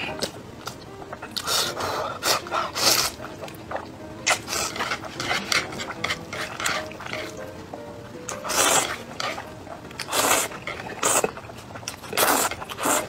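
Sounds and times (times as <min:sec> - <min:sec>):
chewing: 0:00.0 - 0:07.4, 0:08.3 - 0:13.0
noodles being slurped: 0:01.4 - 0:07.4, 0:08.3 - 0:13.0.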